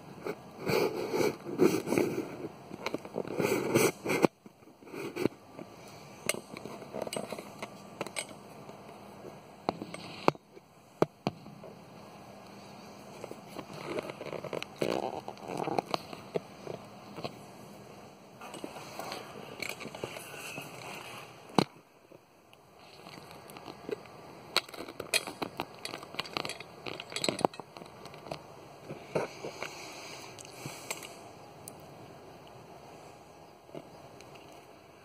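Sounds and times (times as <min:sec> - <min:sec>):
rustling and handling noise: 0:00.0 - 0:35.0.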